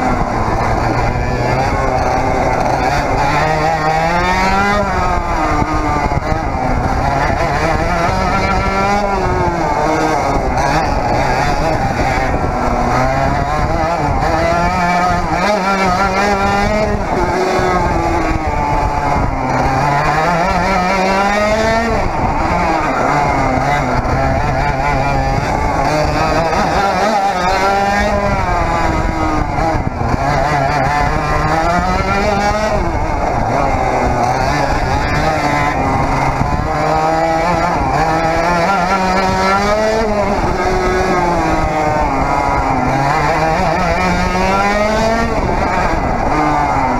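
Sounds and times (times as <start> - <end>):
two-stroke kart engine racing: 0.0 - 46.9.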